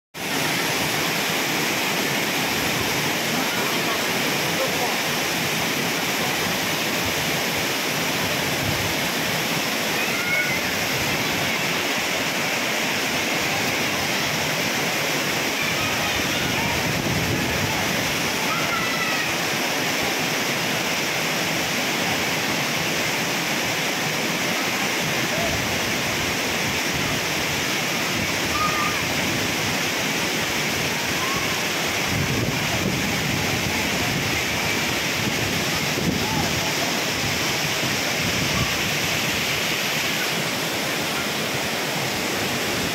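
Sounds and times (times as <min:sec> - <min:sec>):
water rushing down spillway: 0:00.2 - 0:42.9.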